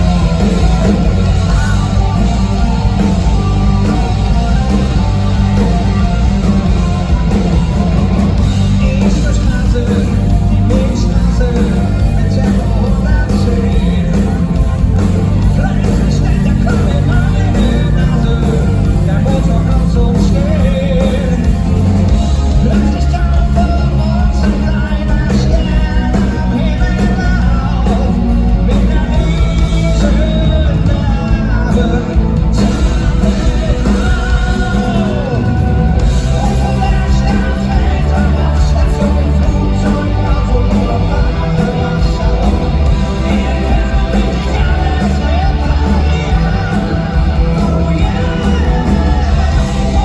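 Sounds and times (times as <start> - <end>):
heavy metal band with singer: 0.0 - 50.0.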